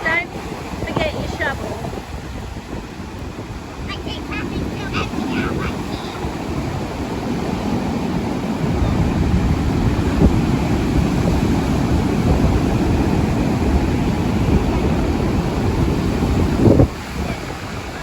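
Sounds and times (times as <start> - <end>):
surf washing on beach: 0.0 - 18.0
wind rumbling on microphone: 0.0 - 18.0.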